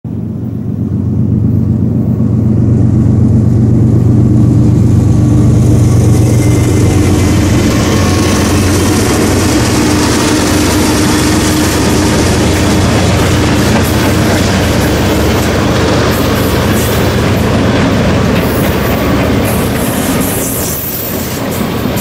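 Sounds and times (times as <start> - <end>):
diesel locomotive engine drone: 0.0 - 22.0
train wheels rushing on rail: 0.1 - 22.0.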